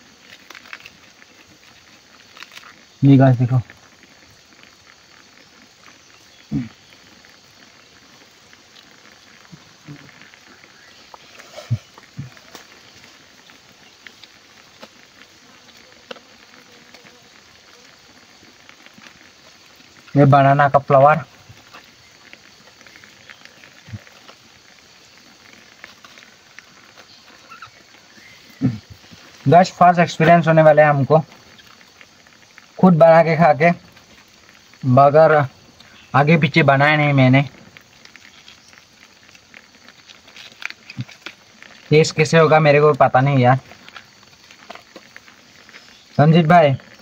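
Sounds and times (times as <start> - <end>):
water simmering and bubbling: 0.0 - 47.0
wood fire crackling: 0.0 - 47.0.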